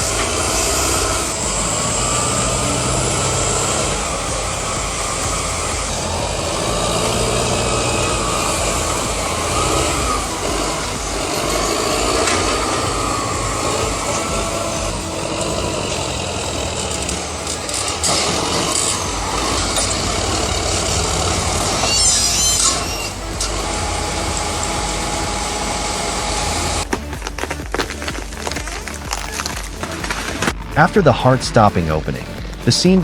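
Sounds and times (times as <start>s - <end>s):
wavering high squeals: 0.0s - 27.2s
heavy machinery diesel engine: 0.0s - 33.0s.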